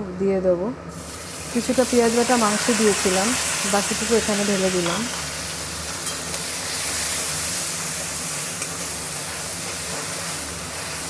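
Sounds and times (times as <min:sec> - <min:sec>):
onion paste sizzling in oil: 0:00.9 - 0:11.0.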